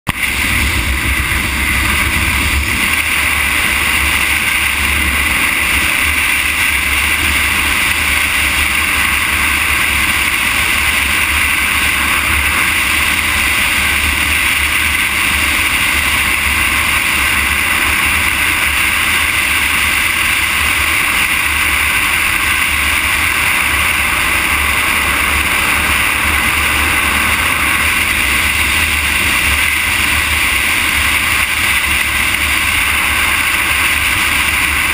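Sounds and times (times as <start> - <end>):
wind noise on microphone: 0.1 - 34.9.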